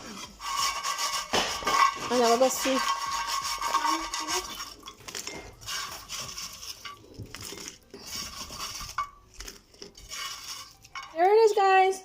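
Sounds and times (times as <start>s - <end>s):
plate and utensils clinking: 0.0s - 11.6s
chips rustling: 0.0s - 11.7s.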